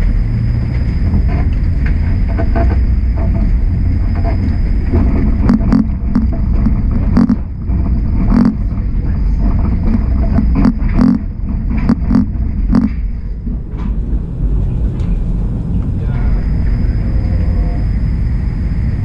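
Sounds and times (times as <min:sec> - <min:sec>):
wheels clacking over rail joints: 0:00.0 - 0:16.0
faint high whine: 0:00.0 - 0:19.0
streetcar rumbling: 0:00.0 - 0:19.0.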